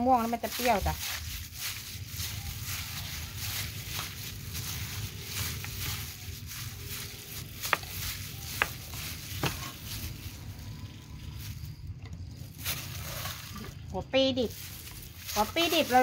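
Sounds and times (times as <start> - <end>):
wet rustling and squishing: 0.0 - 16.0.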